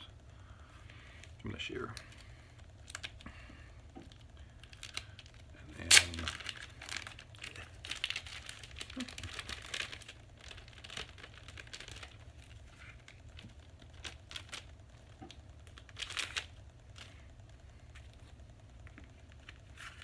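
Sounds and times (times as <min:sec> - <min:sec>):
plastic wrapping crinkling: 0:01.1 - 0:03.2, 0:04.0 - 0:20.0.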